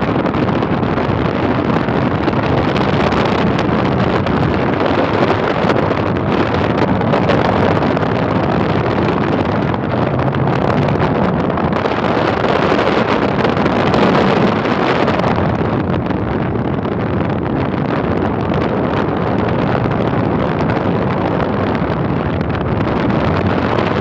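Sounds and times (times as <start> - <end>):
wind roaring over microphone: 0.0 - 24.0.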